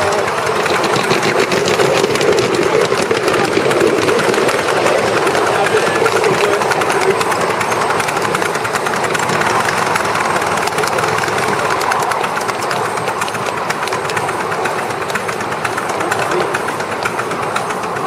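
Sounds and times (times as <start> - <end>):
model steam locomotive running: 0.0 - 18.0
wheels clicking on track: 0.0 - 18.0.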